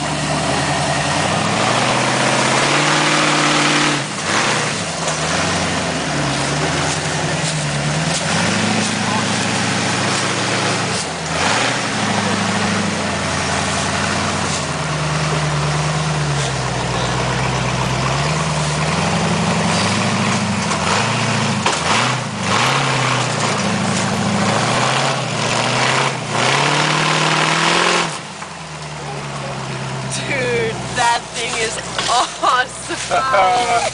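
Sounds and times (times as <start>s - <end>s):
buggy engine revving at low speed: 0.0s - 33.9s.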